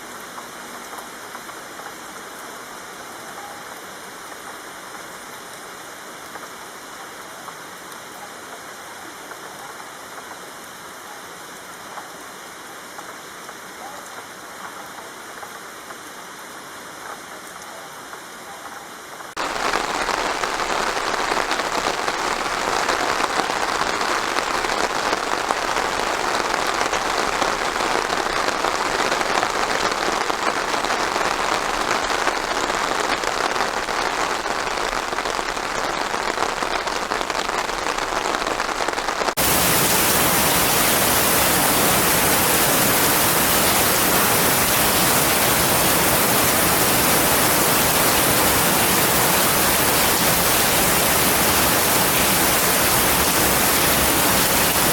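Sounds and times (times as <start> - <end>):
rain pattering on surfaces: 0.0 - 18.4, 19.0 - 54.9.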